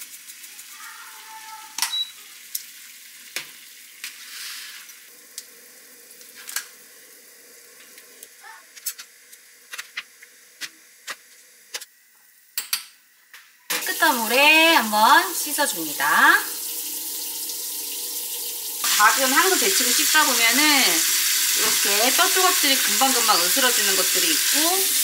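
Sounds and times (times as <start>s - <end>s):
heating water hissing: 0.0s - 11.8s, 13.7s - 25.0s.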